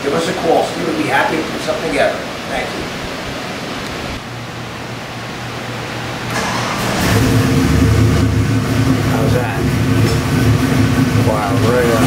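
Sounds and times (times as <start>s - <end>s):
engine running: 0.0s - 12.0s
low steady hum: 0.0s - 12.0s.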